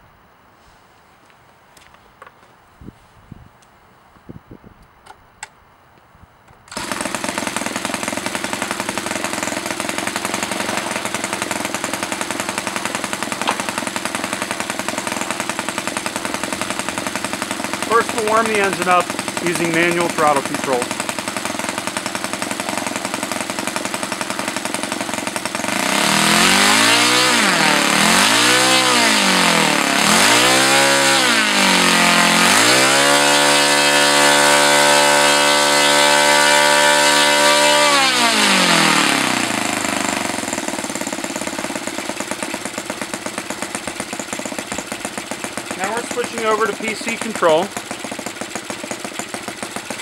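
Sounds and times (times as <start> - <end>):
model engine revving: 6.7 - 50.0.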